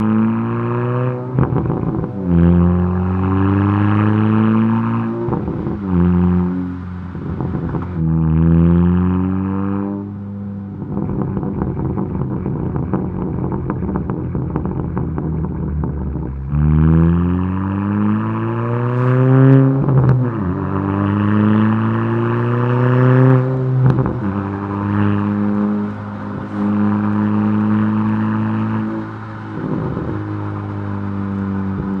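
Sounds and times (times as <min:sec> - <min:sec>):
car engine revving: 0:00.0 - 0:32.0
exhaust crackles and pops: 0:01.2 - 0:03.4, 0:04.5 - 0:09.0, 0:10.7 - 0:18.1, 0:19.5 - 0:32.0.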